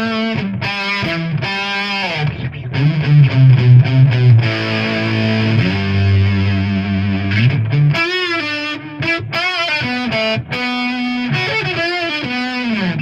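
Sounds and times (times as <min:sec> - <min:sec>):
fuzz electric guitar lead: 0:00.0 - 0:13.0.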